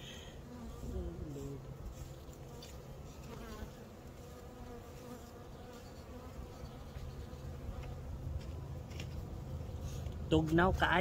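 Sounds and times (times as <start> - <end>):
bees buzzing: 0.0 - 10.3.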